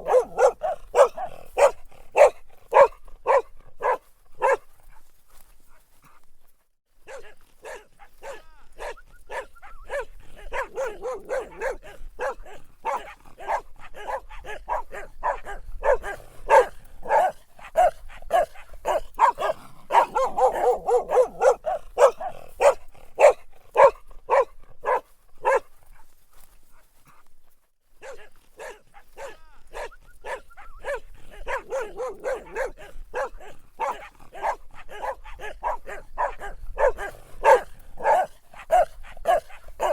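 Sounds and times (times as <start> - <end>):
dog barking: 0.0 - 5.1, 7.0 - 26.1, 28.0 - 39.9.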